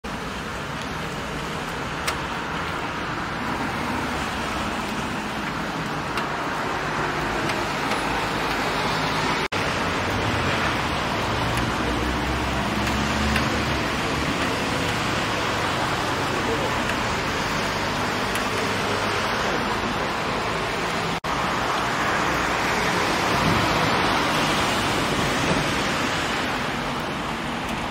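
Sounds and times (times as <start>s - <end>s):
road traffic passing: 0.0s - 27.9s.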